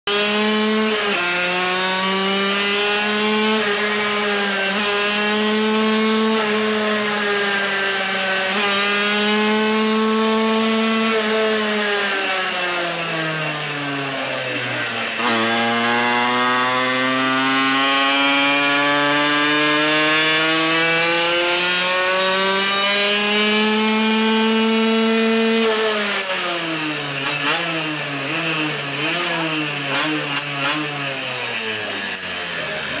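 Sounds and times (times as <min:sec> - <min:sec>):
moped engine revving: 0:00.1 - 0:33.0.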